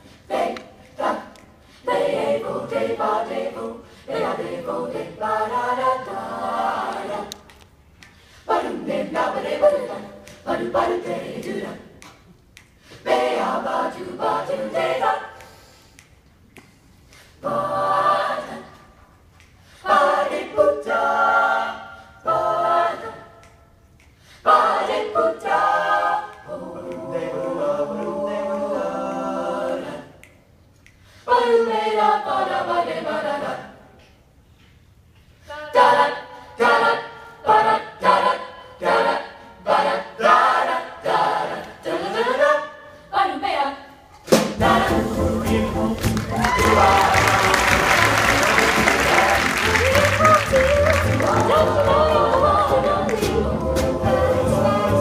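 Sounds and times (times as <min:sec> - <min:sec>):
vocal ensemble singing a cappella: 0:00.0 - 0:55.0.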